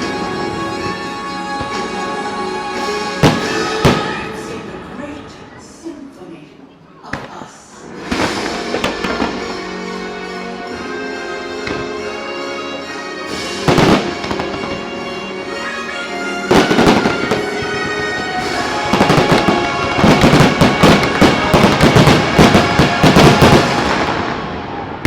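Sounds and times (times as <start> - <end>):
fireworks bursting: 0.0 - 4.6, 7.9 - 10.0, 11.5 - 25.0
show music soundtrack: 0.0 - 5.1, 7.8 - 25.0.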